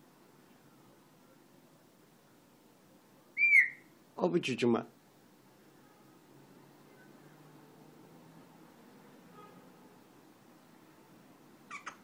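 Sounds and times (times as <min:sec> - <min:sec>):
faint steady hiss: 0:00.0 - 0:11.8.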